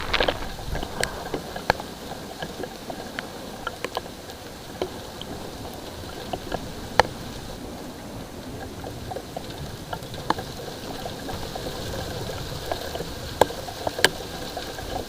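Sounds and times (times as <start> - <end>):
light rain hiss: 0.0 - 15.0
raindrops tapping: 0.0 - 15.0.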